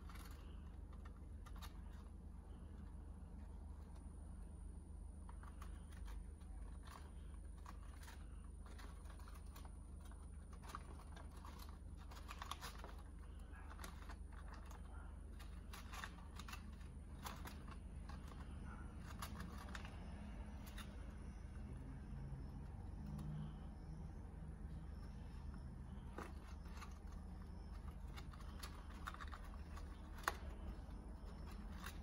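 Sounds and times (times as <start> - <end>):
mouse scrabbling over gravel: 0.0 - 4.1, 5.2 - 21.4, 24.9 - 32.0
low hum: 0.0 - 32.0.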